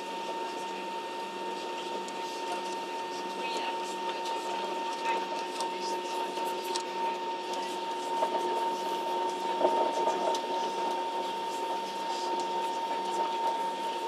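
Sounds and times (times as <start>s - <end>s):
airliner cabin drone: 0.0s - 14.0s
faint passenger voices: 0.0s - 14.0s.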